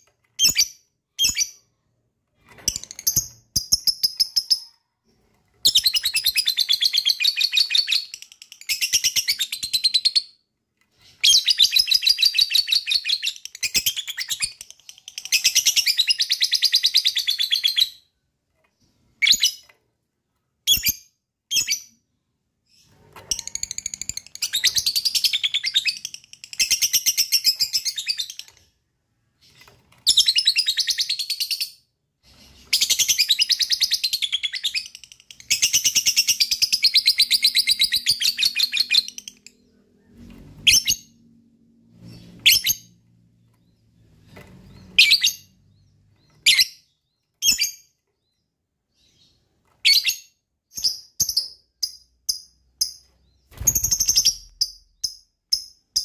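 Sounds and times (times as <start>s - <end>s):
bird chirps: 0.0s - 19.8s, 20.6s - 56.0s.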